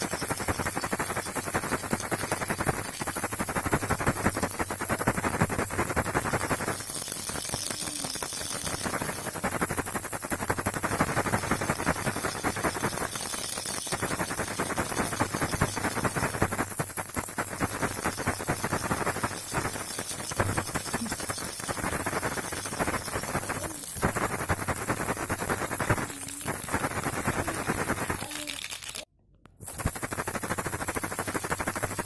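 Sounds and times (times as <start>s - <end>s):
toy baby rattle shaken: 0.0s - 32.0s.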